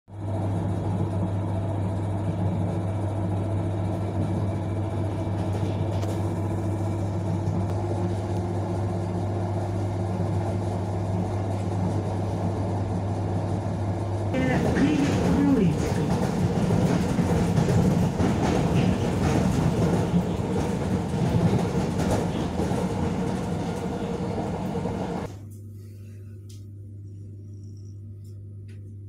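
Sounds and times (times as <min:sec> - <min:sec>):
train interior hum and rumble: 0:00.1 - 0:29.0.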